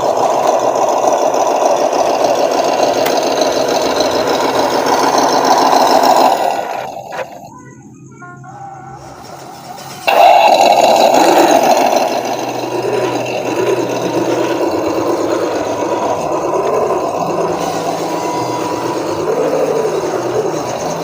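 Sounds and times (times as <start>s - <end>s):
rc car motor whirring: 0.0s - 7.5s, 9.0s - 21.0s.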